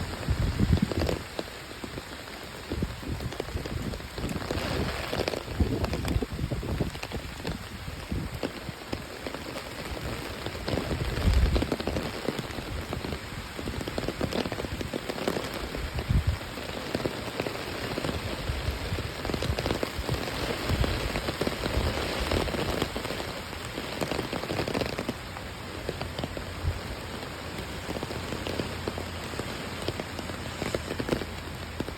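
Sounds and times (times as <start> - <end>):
rain pattering on surfaces: 0.0 - 31.9.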